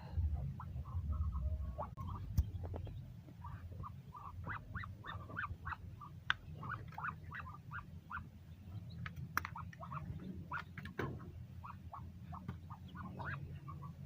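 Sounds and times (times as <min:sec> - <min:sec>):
ducks calling: 0:00.0 - 0:14.0
steady low hum: 0:00.0 - 0:14.0.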